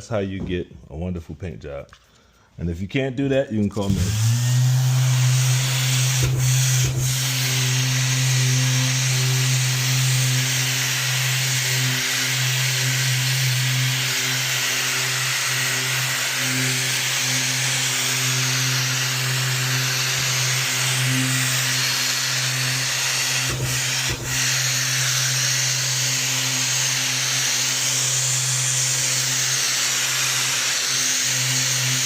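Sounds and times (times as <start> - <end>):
electric sander on wall: 3.8 - 32.0.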